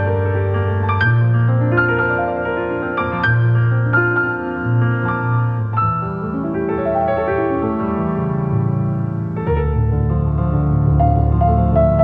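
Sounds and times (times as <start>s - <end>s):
background piano music: 0.0s - 12.0s.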